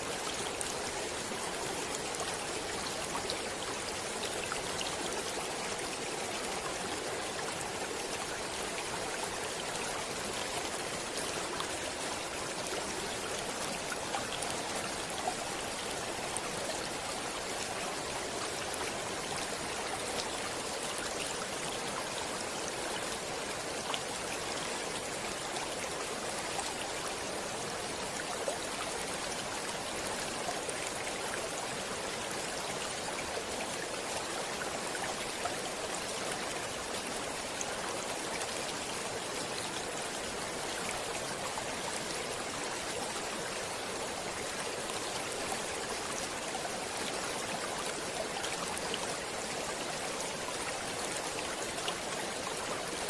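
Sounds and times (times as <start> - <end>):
water flowing over rocks: 0.0 - 53.0.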